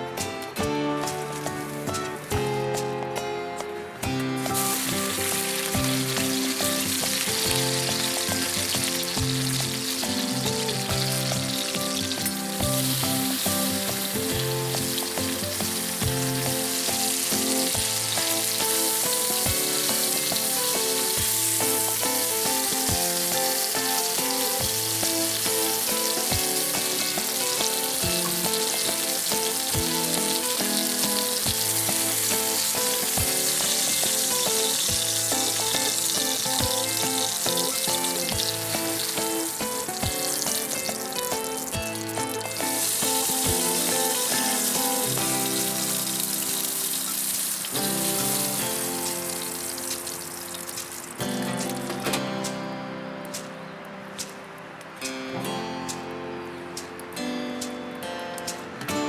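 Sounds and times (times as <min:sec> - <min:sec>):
steak sizzling: 0:00.0 - 0:54.4
background music: 0:00.0 - 0:59.0.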